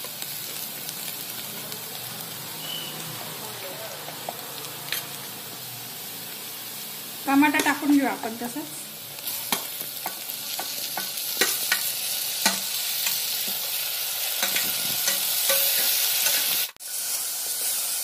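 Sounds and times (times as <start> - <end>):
tomatoes sizzling in hot fat: 0.0 - 18.0.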